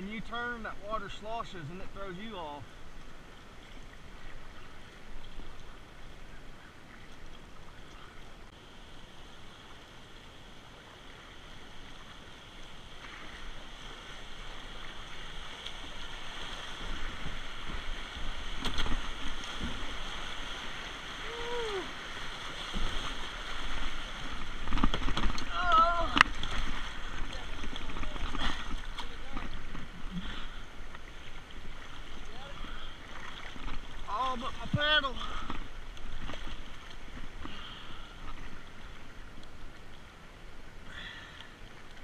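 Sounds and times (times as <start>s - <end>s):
whitewater rushing and splashing: 0.0s - 5.9s, 8.2s - 42.0s.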